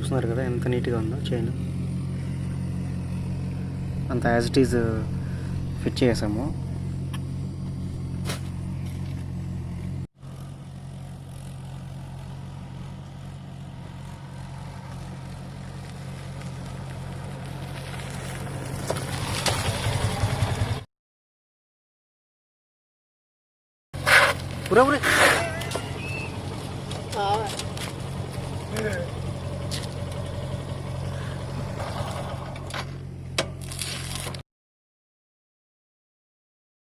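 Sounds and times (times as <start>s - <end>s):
motorcycle engine idling: 0.0s - 20.9s, 24.0s - 33.4s.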